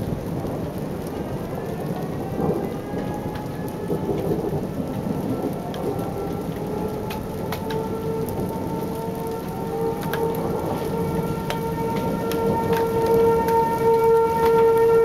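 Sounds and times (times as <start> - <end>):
rain falling steadily: 0.0 - 15.0
thunder rumbling low: 0.0 - 15.0.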